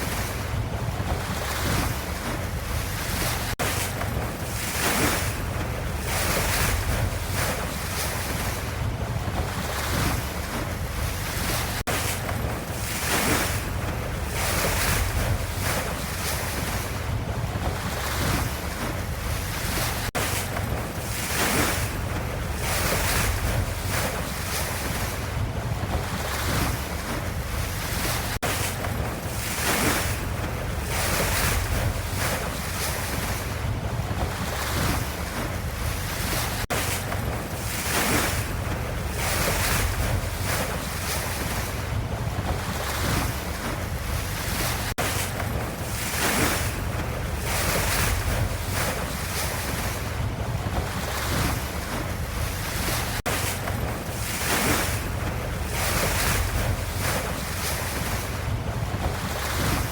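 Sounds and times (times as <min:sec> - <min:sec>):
ocean waves surf: 0:00.0 - 0:59.9.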